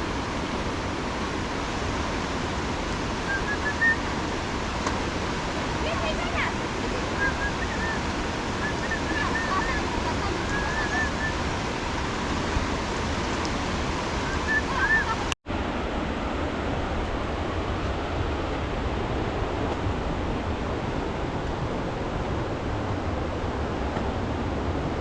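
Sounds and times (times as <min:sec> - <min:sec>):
river rushing in flood: 0:00.0 - 0:25.0.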